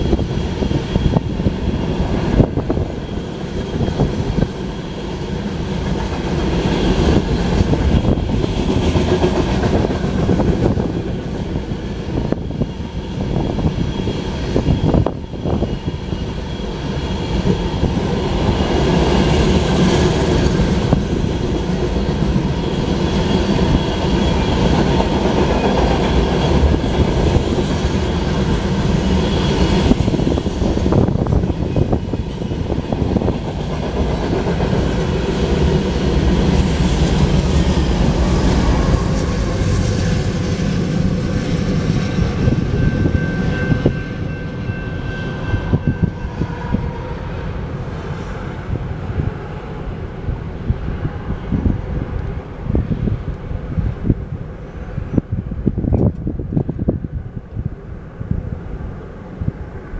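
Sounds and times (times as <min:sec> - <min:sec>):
diesel locomotives passing: 0:00.0 - 0:59.9
train wheels rumbling and clacking: 0:00.0 - 0:59.9.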